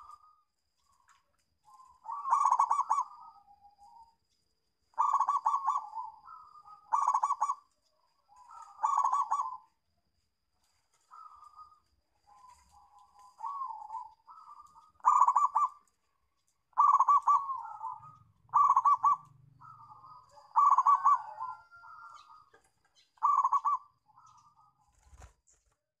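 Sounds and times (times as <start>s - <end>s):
dove cooing: 0.0s - 1.0s, 1.7s - 4.2s, 4.9s - 9.8s, 11.0s - 16.0s, 16.6s - 25.3s.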